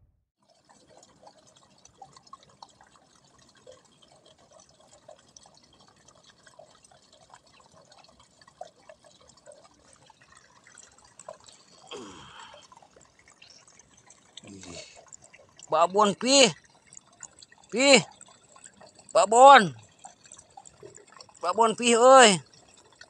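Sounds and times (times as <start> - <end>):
water dripping and plopping: 0.4 - 23.0.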